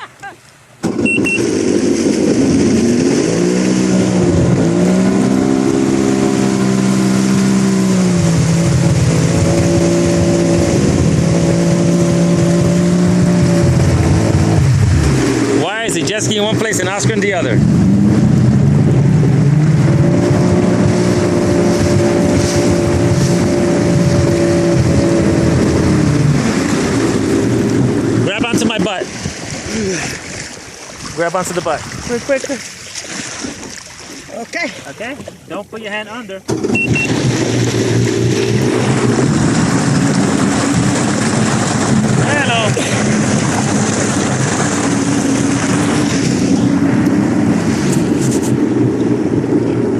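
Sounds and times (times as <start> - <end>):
boat engine rumbling: 0.0 - 49.9
wind and water hiss: 0.0 - 49.9.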